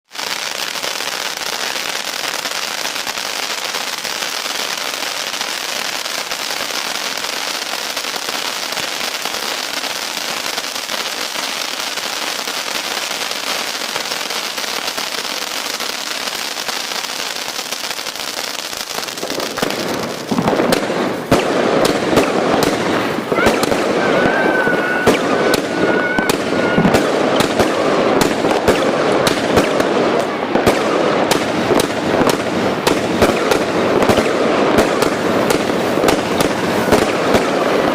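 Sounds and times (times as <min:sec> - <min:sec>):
firecrackers crackling: 0:00.0 - 0:37.9.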